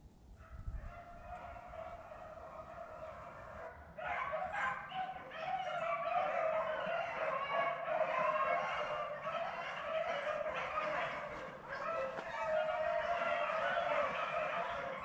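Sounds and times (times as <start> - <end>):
beagles baying: 0.8 - 15.0.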